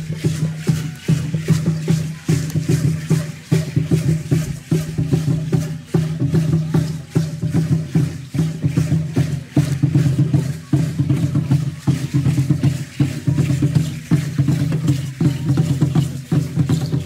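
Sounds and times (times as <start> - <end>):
driving drum beat: 0.0 - 17.0.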